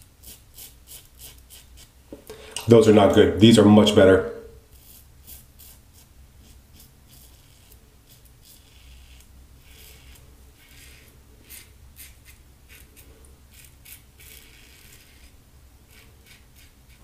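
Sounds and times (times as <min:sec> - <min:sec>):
razor rasping on stubble: 0:00.2 - 0:01.9, 0:04.7 - 0:17.0.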